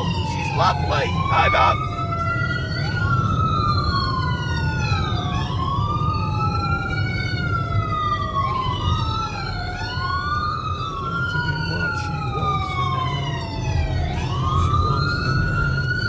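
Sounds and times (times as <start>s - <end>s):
sirens wailing: 0.0s - 16.0s.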